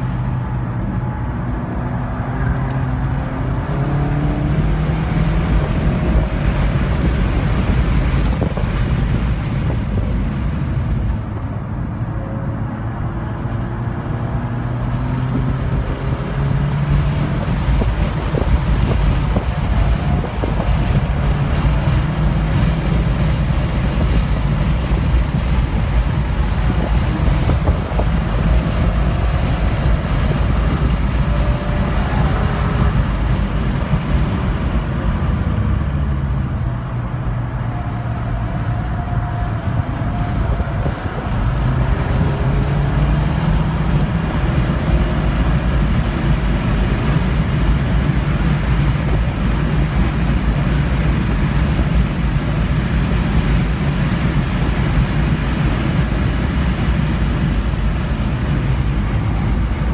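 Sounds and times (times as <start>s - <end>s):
car engine accelerating: 0.0s - 59.9s
wind noise: 0.0s - 59.9s.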